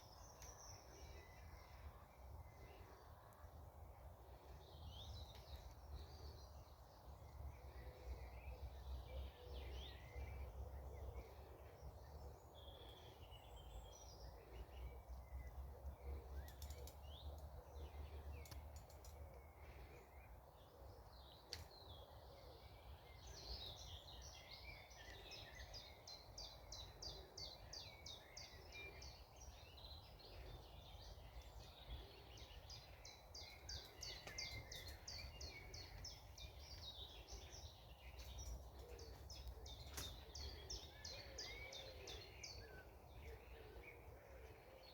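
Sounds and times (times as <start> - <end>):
small birds singing: 0.0 - 44.9.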